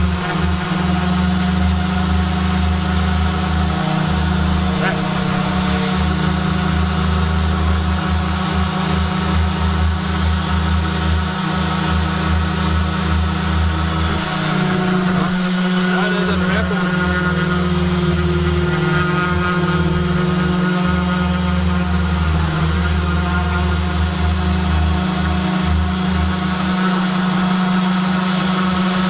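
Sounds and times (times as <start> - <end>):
orbital sanders sanding wood: 0.0 - 29.0.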